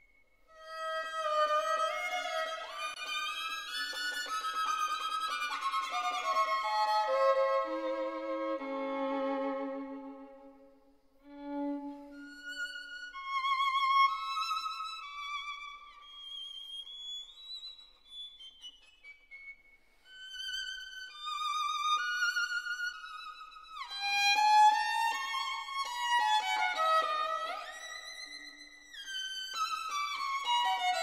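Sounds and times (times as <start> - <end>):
violin playing slow melody: 0.5 - 16.8, 20.1 - 31.0.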